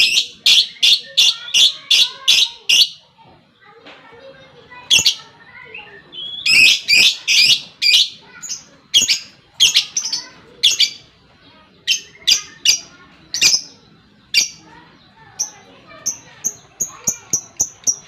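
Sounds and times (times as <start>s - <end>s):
lovebird chirping: 0.0s - 3.0s, 5.0s - 18.0s.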